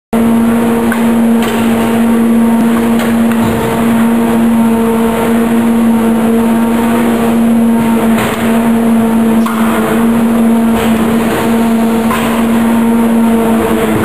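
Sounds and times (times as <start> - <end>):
machine drone: 0.2 - 14.0.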